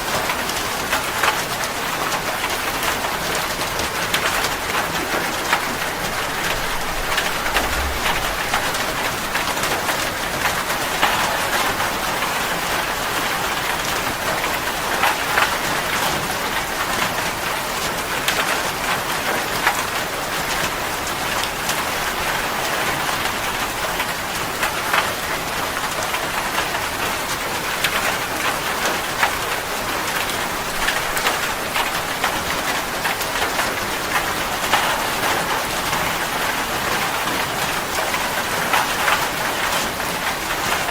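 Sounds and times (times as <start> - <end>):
raindrops pattering on a surface: 0.0 - 40.9
steady rain falling: 0.0 - 40.9.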